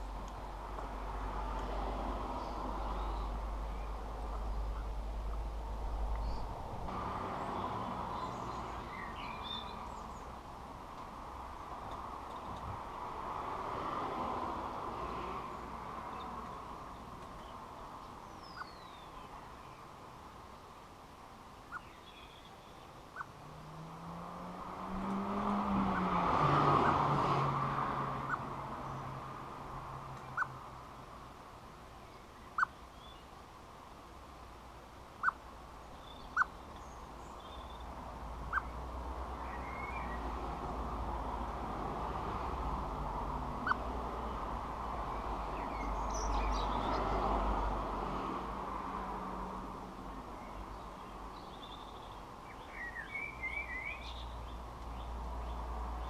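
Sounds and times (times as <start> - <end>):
vehicle passing by: 0.0 - 18.6, 23.1 - 31.5, 36.2 - 56.0
small birds chirping: 1.6 - 13.1, 14.7 - 27.4, 28.1 - 33.5, 35.1 - 41.4, 43.5 - 47.7, 50.1 - 56.0.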